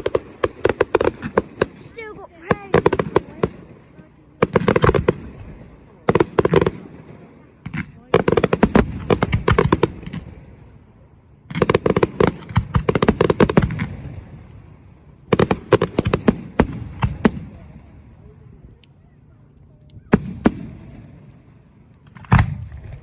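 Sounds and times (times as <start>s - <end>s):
fireworks crackling bangs: 0.0s - 10.8s, 11.5s - 18.2s, 20.1s - 23.0s.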